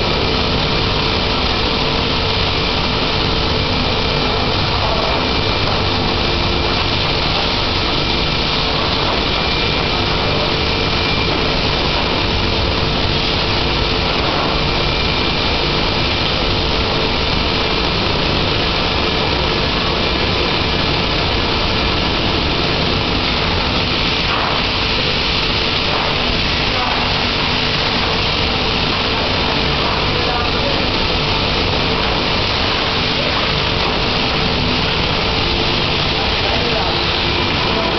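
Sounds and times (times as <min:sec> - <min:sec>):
vacuum forming machine hum: 0:00.0 - 0:37.9.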